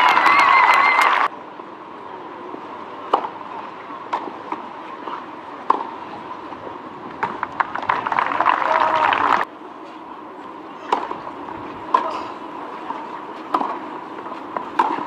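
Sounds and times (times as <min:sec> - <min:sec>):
crowd noise: 0:00.0 - 0:15.0.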